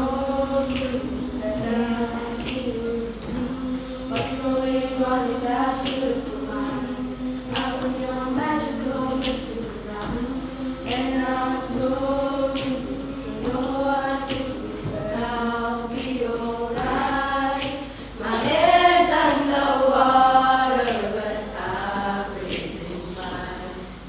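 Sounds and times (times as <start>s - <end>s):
children singing together: 0.0s - 24.0s.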